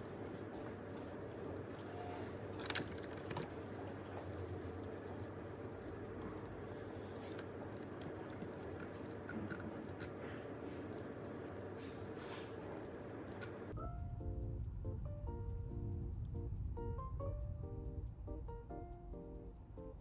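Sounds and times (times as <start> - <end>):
low hum: 1.0 - 20.0.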